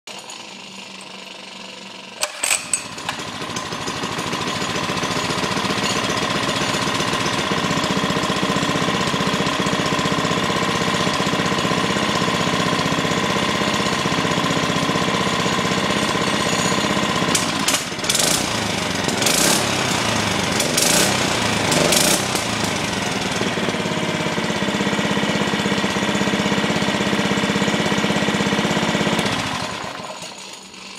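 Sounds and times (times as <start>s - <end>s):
small engine running: 0.1s - 30.9s.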